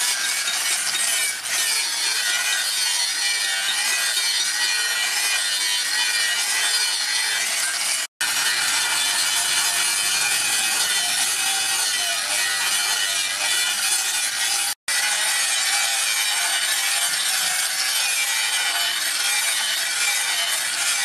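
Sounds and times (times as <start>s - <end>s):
angle grinder grinding steel: 0.0s - 21.0s.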